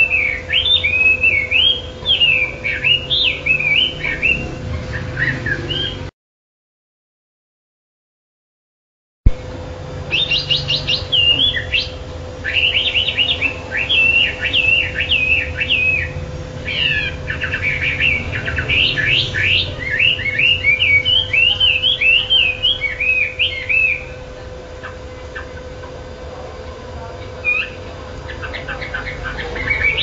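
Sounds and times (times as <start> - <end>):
songbird singing trills: 0.0 - 6.1, 10.1 - 26.0, 27.2 - 30.0
steady low hum: 0.0 - 6.1, 9.3 - 30.0.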